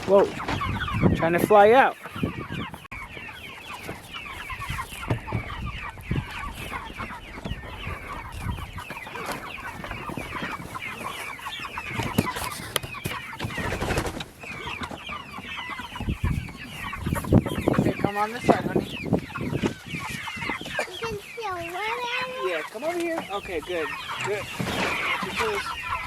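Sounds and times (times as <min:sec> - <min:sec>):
chickens chirping and clucking: 0:00.0 - 0:26.0.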